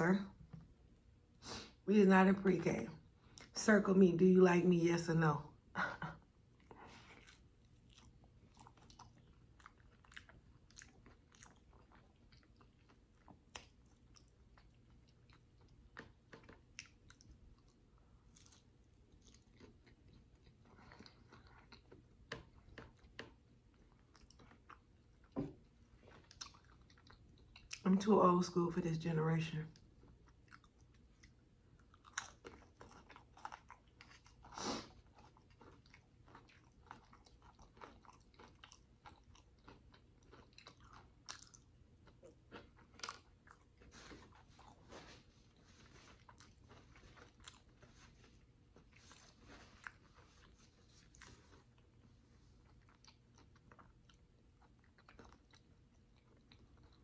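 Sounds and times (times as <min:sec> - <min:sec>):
chewing fried food: 0:05.8 - 0:28.1, 0:29.7 - 0:57.0.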